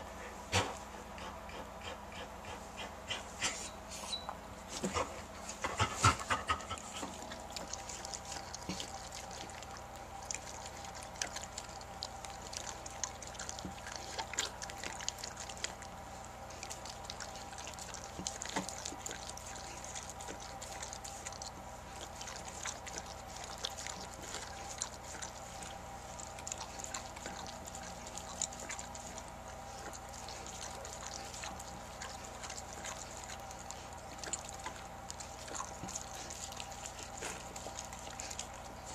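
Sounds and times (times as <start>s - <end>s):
dog panting: 0.0s - 38.9s
faint steady hum: 0.0s - 38.9s
dog licking and slurping: 4.7s - 38.9s.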